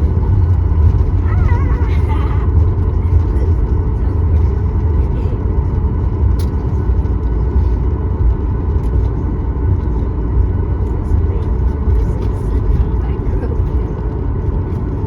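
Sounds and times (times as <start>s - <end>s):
low rumble of jet engines: 0.0s - 15.0s.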